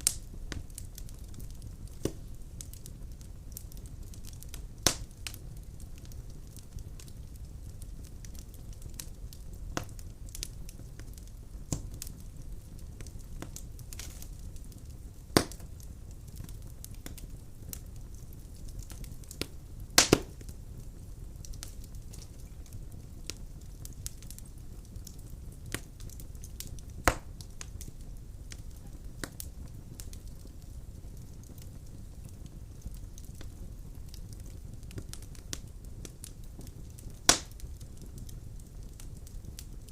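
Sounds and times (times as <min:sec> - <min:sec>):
crackling logs: 0:00.0 - 0:39.9
fire popping: 0:00.0 - 0:39.9
low rustle of flames: 0:00.0 - 0:39.9.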